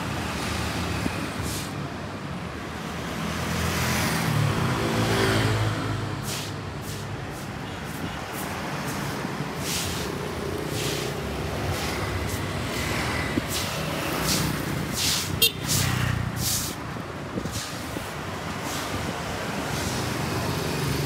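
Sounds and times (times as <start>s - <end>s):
road noise of passing traffic: 0.0s - 21.0s.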